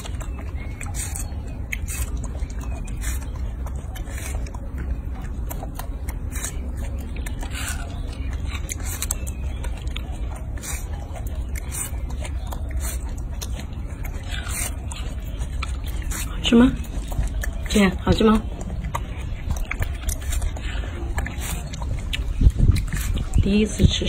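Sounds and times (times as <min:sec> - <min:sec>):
monkey chewing watermelon: 0:00.0 - 0:24.0.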